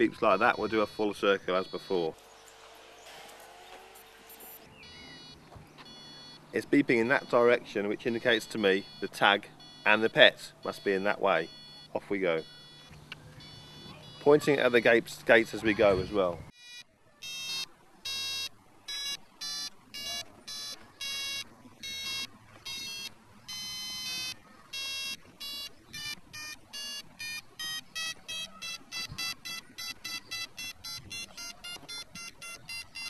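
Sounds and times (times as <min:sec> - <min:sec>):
electronic tracker beeps: 0:00.3 - 0:06.4, 0:08.6 - 0:14.4, 0:16.6 - 0:33.0.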